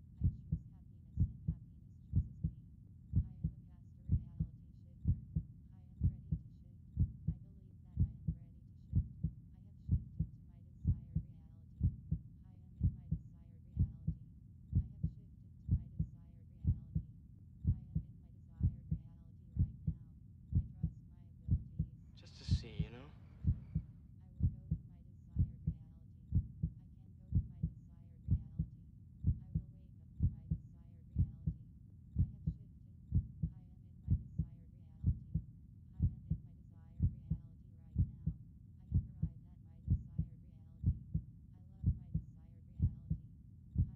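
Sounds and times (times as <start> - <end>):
heartbeat thumps: 0.0 - 0.6, 1.2 - 2.5, 3.1 - 6.4, 7.0 - 7.4, 8.0 - 12.2, 12.8 - 13.2, 13.8 - 20.9, 21.5 - 24.8, 25.4 - 31.6, 32.2 - 37.4, 38.0 - 43.2.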